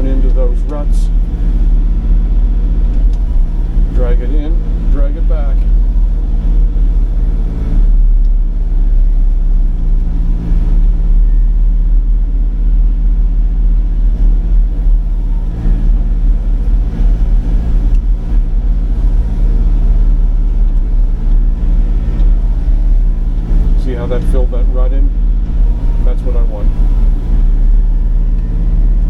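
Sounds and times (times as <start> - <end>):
excavator engine droning: 0.0 - 29.0.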